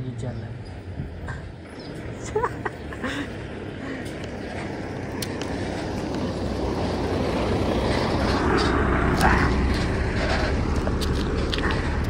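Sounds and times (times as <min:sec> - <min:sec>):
lorry passing: 0:00.6 - 0:12.0.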